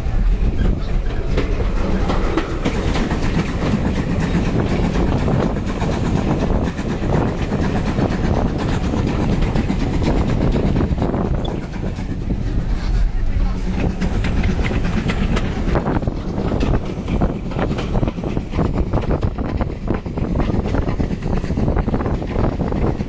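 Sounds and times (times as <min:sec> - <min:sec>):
train carriage rumble: 0:00.0 - 0:23.0
wheels clattering over rail joints: 0:00.0 - 0:23.0.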